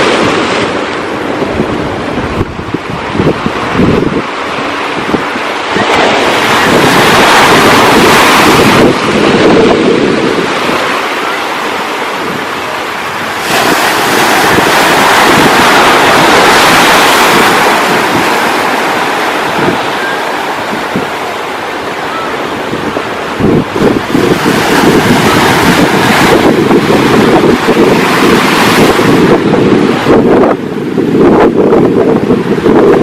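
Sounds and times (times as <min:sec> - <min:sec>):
ocean waves washing in: 0:00.0 - 0:33.0
wind buffeting microphone: 0:00.0 - 0:33.0.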